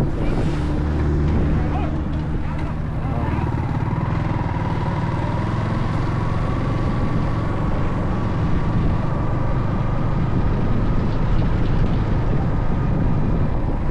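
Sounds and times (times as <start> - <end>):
motorcycle engine rumble: 0.0 - 13.9.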